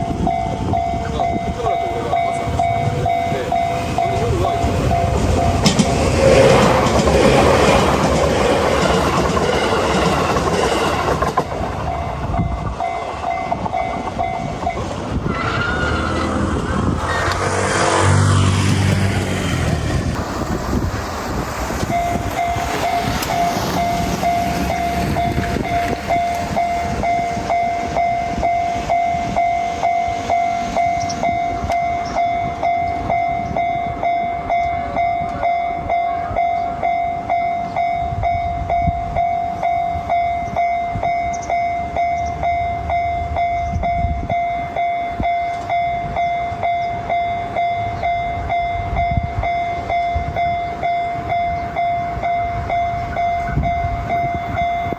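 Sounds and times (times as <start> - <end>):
level crossing warning bell: 0.0 - 16.6, 21.8 - 54.9
train rail noise: 0.0 - 54.9.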